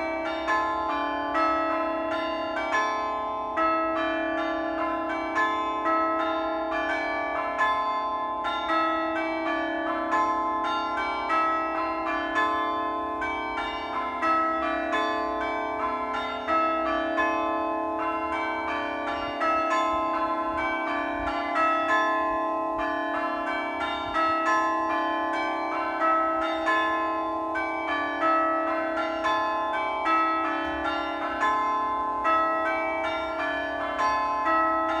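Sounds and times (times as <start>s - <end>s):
church bells pealing: 0.0s - 35.0s.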